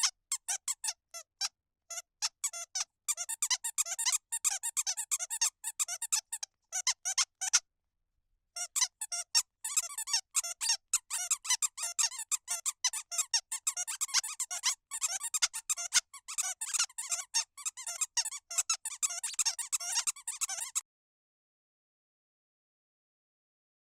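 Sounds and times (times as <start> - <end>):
squeaky toy squeaking: 0.0 - 7.6, 8.6 - 20.8.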